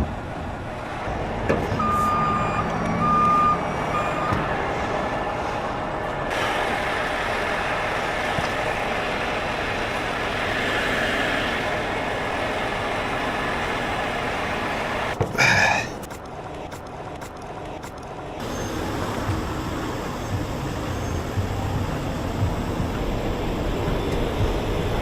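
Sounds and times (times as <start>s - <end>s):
truck engines running: 0.0s - 25.0s.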